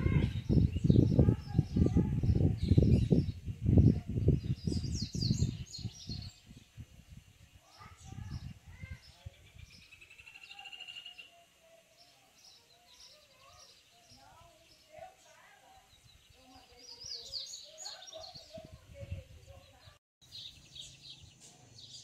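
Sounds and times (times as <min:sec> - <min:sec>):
bird singing high chirps: 0:00.1 - 0:06.7, 0:07.7 - 0:14.9, 0:15.7 - 0:18.7, 0:19.7 - 0:22.0.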